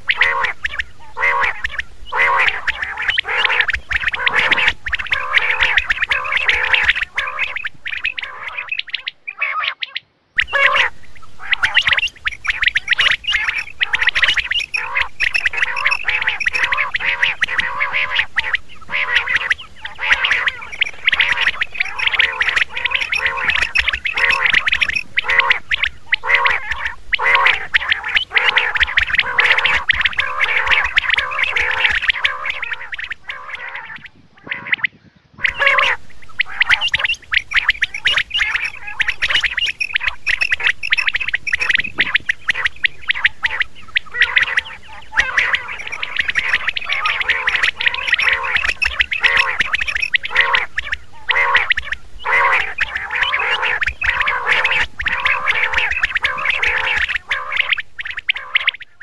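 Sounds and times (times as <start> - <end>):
quails calling: 0.0 - 59.0.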